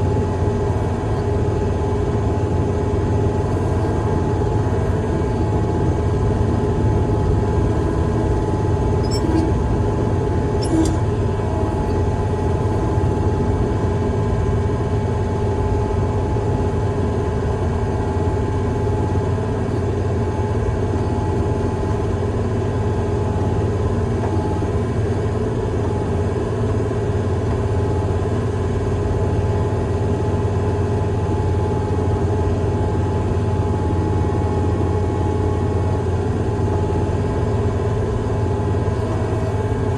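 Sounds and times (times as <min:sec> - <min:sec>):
heavy machine engine droning: 0:00.0 - 0:39.9.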